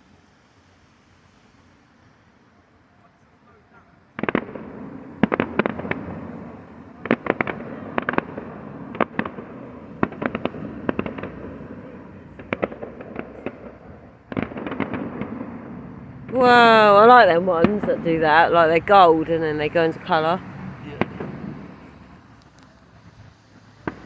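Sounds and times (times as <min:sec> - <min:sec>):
fireworks crackling: 0:04.0 - 0:24.0
fireworks bangs and pops: 0:04.1 - 0:24.0.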